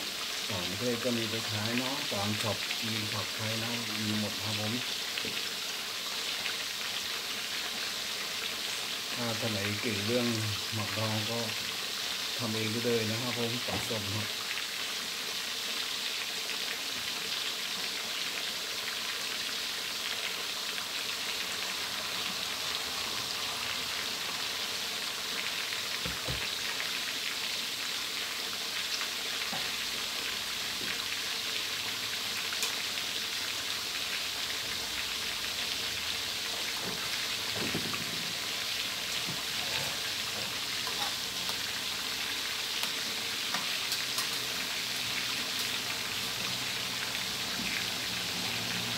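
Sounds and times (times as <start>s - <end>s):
fish sizzling in hot oil: 0.0s - 48.9s.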